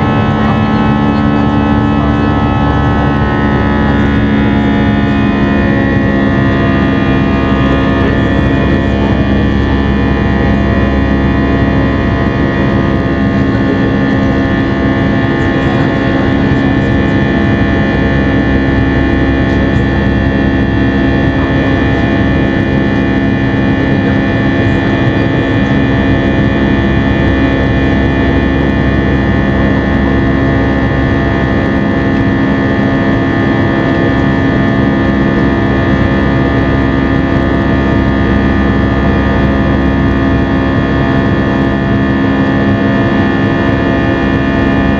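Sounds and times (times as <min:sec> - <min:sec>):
jet engines roaring in cabin: 0:00.0 - 0:44.9.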